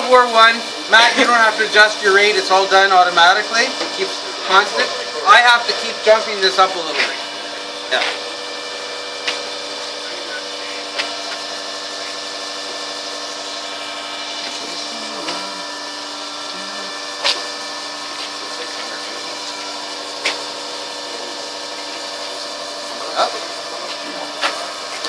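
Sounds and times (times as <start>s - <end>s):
testing machine humming: 0.0s - 25.0s.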